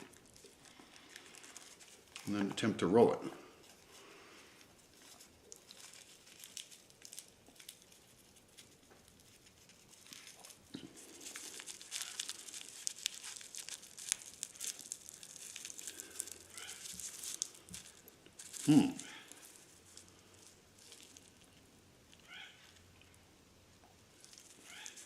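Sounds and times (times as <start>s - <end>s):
rolling paper and tobacco crackling: 0.0s - 25.0s.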